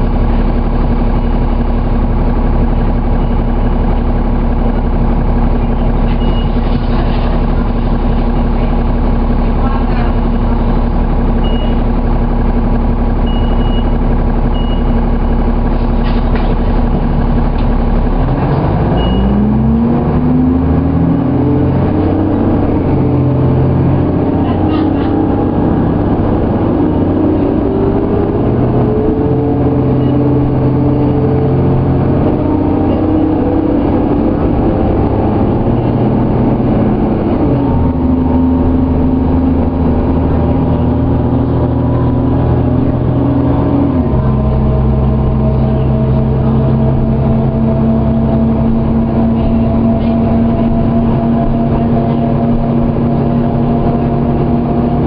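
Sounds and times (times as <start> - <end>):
bus diesel engine pulling away: 0.0 - 55.0.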